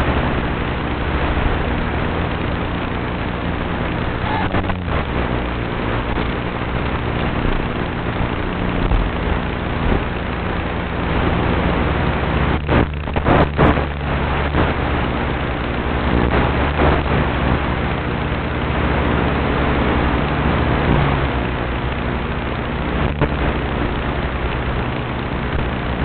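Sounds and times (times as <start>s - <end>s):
model airplane motor drone: 0.0s - 26.0s.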